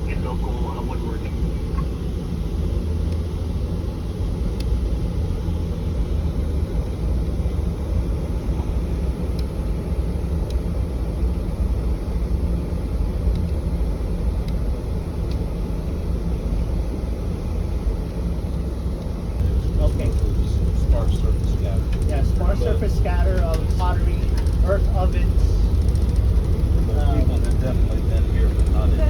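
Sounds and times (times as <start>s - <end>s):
vehicle driving low rumble: 0.0s - 29.0s.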